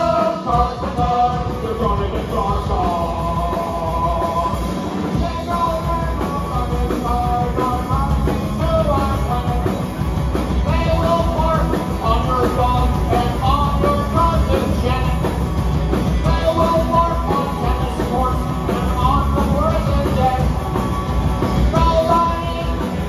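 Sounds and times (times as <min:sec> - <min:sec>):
live punk rock band: 0:00.0 - 0:23.0.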